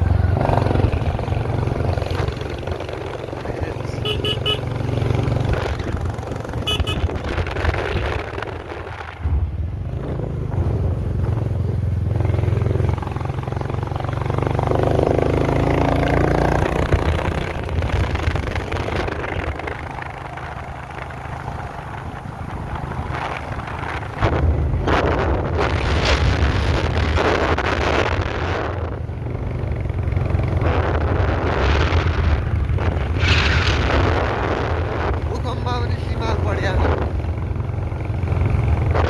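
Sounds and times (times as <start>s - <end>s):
road noise: 0.0s - 39.0s
vehicle engine running: 0.0s - 39.0s.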